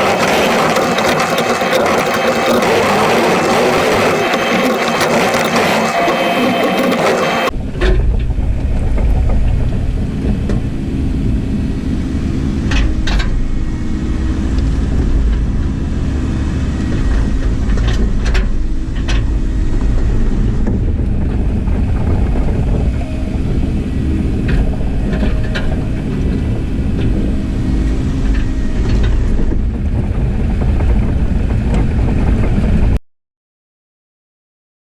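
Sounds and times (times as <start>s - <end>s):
bright noisy machine sound: 0.0s - 33.0s
digger diesel engine rumbling: 0.0s - 33.0s.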